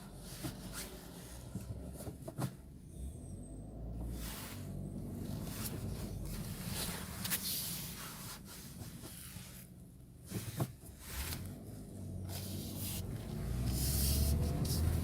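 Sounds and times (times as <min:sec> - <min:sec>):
car interior low rumble: 0:00.0 - 0:15.0.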